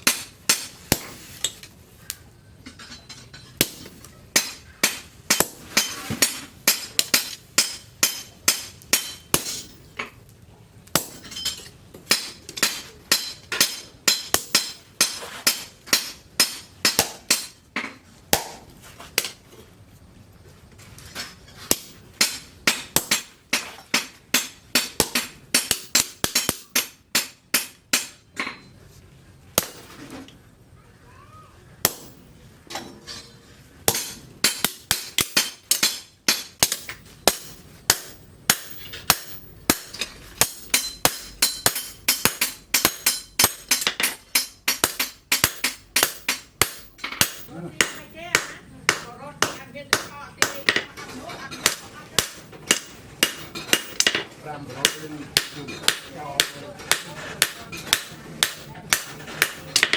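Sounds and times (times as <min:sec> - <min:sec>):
hammer clanging on steel: 0:00.0 - 0:01.7, 0:02.6 - 0:10.2, 0:11.0 - 0:18.5, 0:21.1 - 0:28.8, 0:29.6 - 0:30.1, 0:31.8 - 0:59.9.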